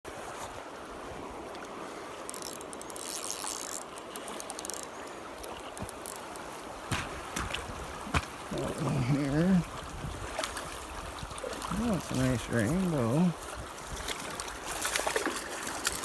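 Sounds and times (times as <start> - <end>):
river water flowing: 0.1 - 16.0.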